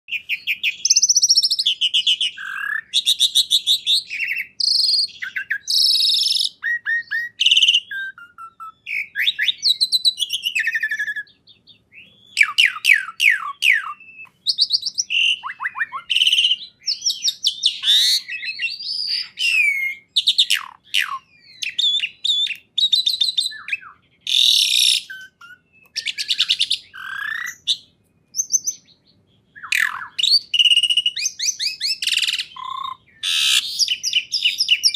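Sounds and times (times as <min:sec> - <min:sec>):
songbird singing trills and whistles: 0:00.1 - 0:34.9.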